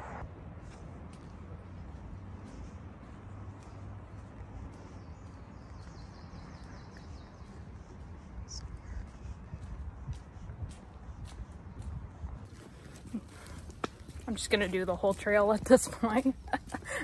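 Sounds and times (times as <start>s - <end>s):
wind rumble on microphone: 0.0s - 14.3s.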